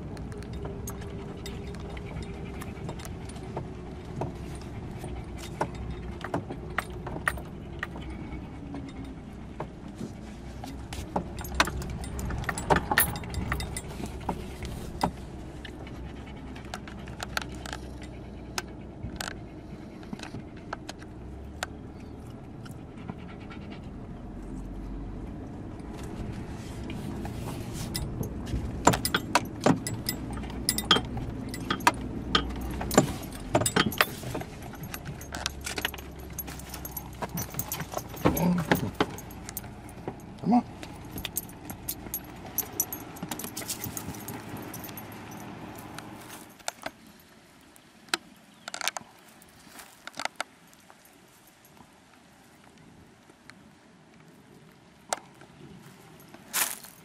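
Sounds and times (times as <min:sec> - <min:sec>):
car interior rattles and clicks: 0:00.0 - 0:24.4, 0:25.2 - 0:46.9
car engine hum: 0:00.0 - 0:48.0.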